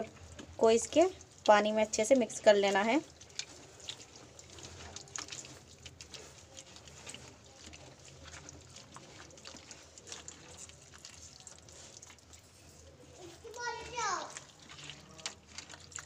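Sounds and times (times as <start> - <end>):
small water splashes: 0.0 - 16.0
wet squelching: 0.0 - 16.0.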